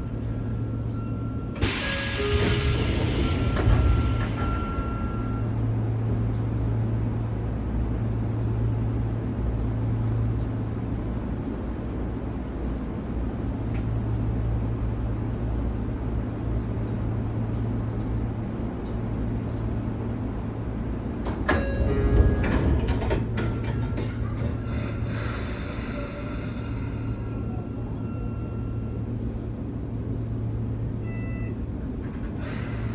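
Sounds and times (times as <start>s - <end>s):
train equipment humming: 0.0s - 32.9s
rumbling background: 2.2s - 32.9s.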